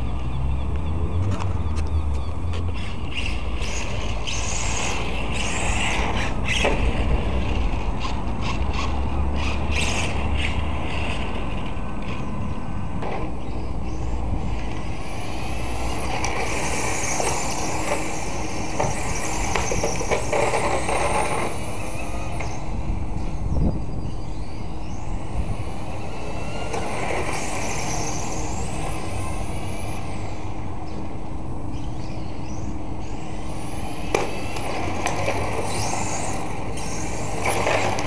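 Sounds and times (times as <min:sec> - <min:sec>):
electric motor whine: 0:00.0 - 0:38.0
low rumble of tyres on paving: 0:00.0 - 0:38.0.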